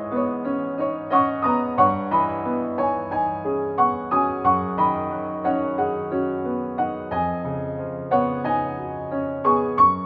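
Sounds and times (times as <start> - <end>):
gentle keyboard melody: 0.0 - 10.0.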